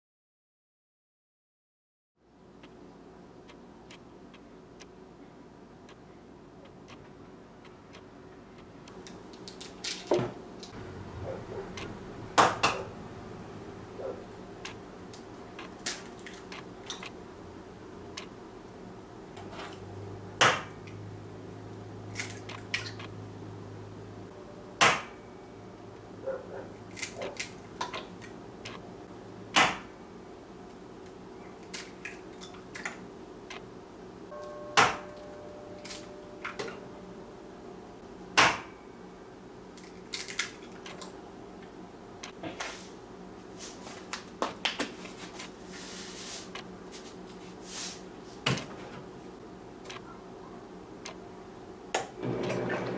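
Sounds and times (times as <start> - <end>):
low steady hum: 2.2 - 52.9.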